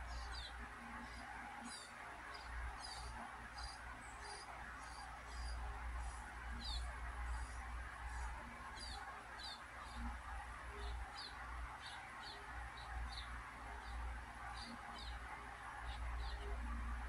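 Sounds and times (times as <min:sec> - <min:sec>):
bird chirping: 0:00.0 - 0:16.8
low steady hum: 0:00.0 - 0:17.0.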